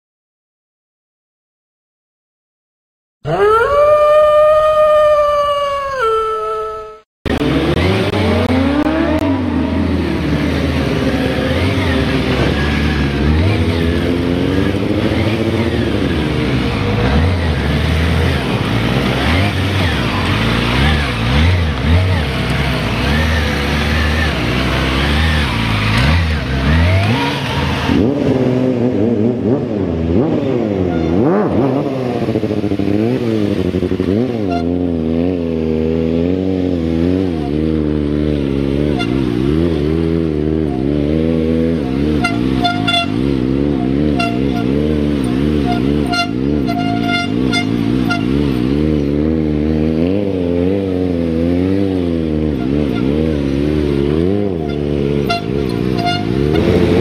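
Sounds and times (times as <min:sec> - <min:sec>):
motorcycle engines revving: 0:07.3 - 0:57.0.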